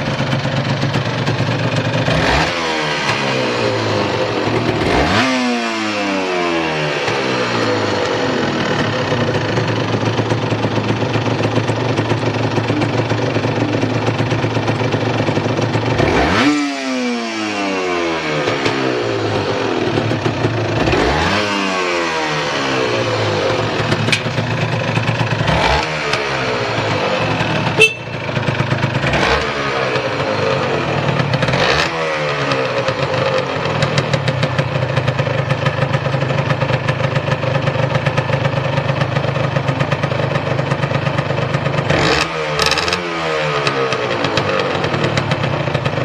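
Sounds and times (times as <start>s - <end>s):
two-stroke engine idling and revving: 0.0s - 46.0s.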